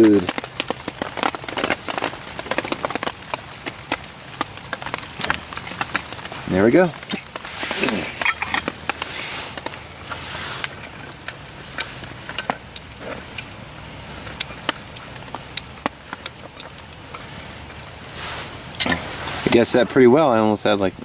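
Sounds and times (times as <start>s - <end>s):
hot water pouring: 0.0s - 21.0s.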